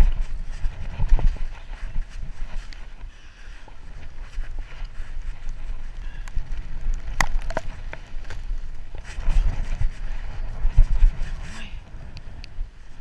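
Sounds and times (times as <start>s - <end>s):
bike rattling and clicking: 0.0s - 13.0s
bike tyres on rocky trail: 0.0s - 13.0s
wind buffeting microphone: 0.0s - 13.0s.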